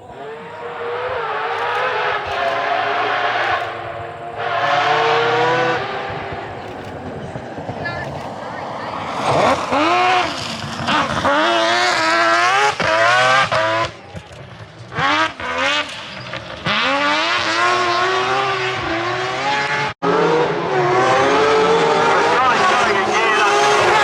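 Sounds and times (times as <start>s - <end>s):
rotary engine revving hard: 0.0s - 24.0s.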